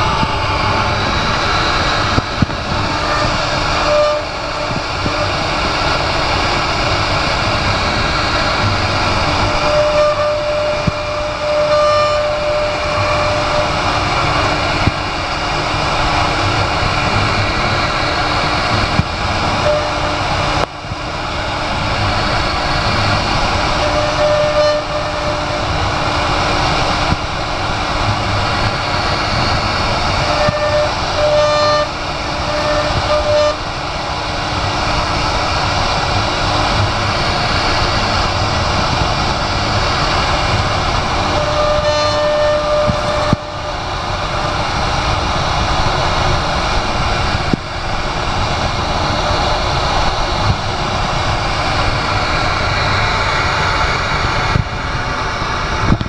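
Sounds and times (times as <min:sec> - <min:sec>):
cnc router cutting wood: 0:00.0 - 0:56.0.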